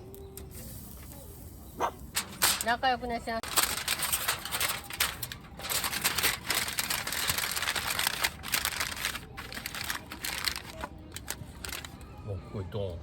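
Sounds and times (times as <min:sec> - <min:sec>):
crackling and rustling: 0:00.0 - 0:12.1.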